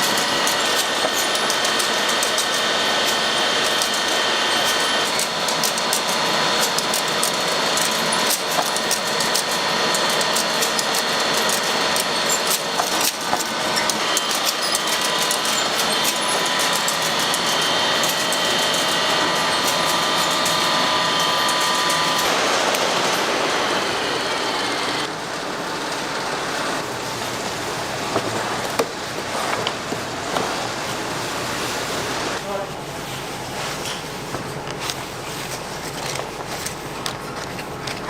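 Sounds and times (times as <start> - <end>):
machinery whining: 0.0 - 32.9.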